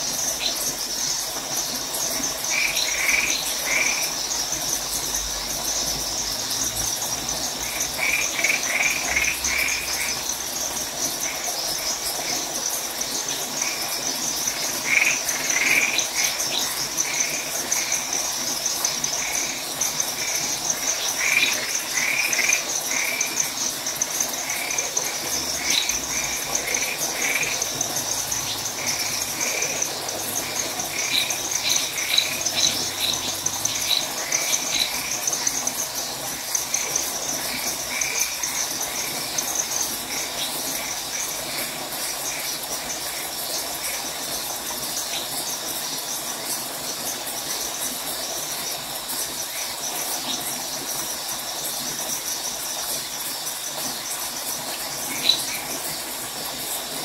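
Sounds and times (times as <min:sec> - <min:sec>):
frogs calling: 0:00.0 - 0:57.0
high insect trill: 0:00.0 - 0:57.0.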